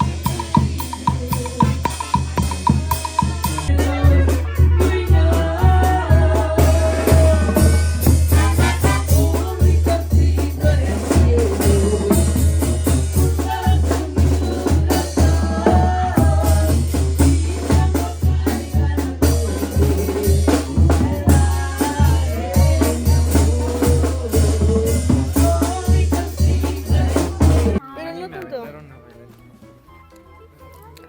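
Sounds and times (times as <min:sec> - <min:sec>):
brass band playing: 0:00.0 - 0:27.9.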